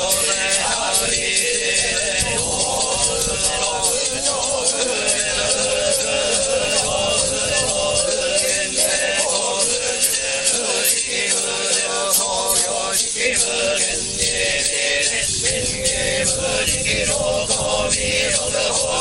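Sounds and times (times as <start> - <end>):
constant hiss: 0.0 - 19.0
group chanting prayer in unison: 0.0 - 19.0.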